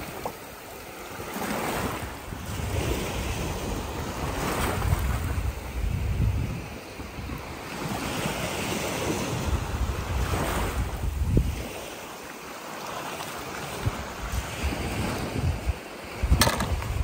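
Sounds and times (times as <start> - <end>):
wind buffeting microphone: 0.0 - 12.0, 13.5 - 17.0.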